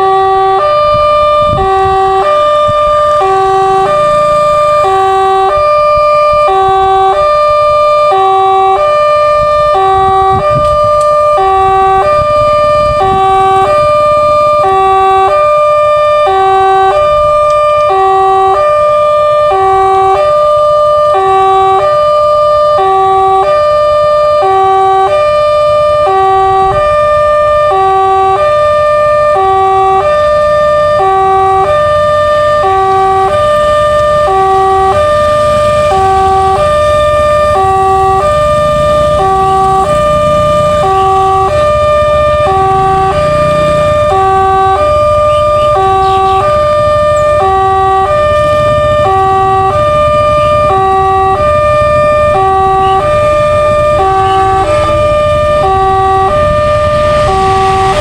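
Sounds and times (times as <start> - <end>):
level-crossing two-tone alarm: 0.0 - 58.0
traffic rumble: 0.0 - 58.0.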